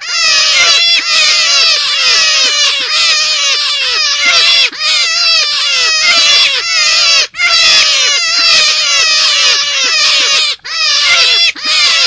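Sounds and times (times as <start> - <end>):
rabbit calls: 0.0 - 12.0.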